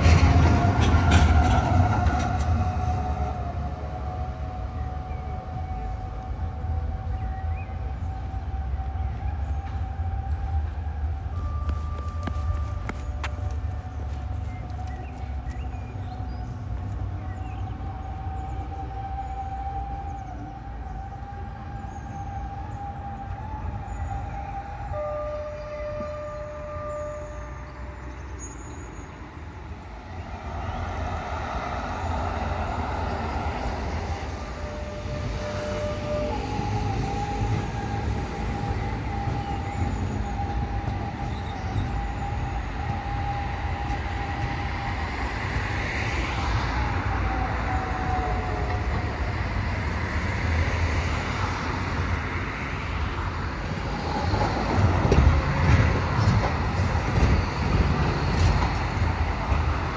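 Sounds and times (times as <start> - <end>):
low rumble of moving vehicle: 0.0 - 59.9.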